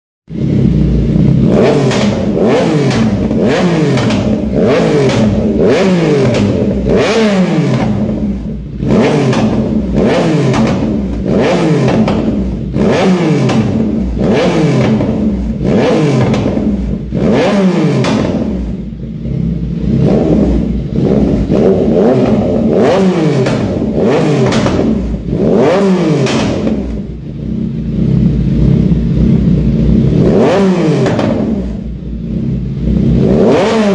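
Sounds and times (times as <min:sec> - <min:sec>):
motorcycle engine revving: 0:00.3 - 0:33.9.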